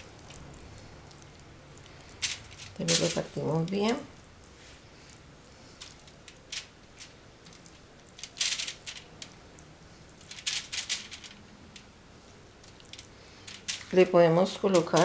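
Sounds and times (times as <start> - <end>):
aluminium foil crinkling: 0.0 - 15.0
brush dabbing on foil: 0.0 - 15.0.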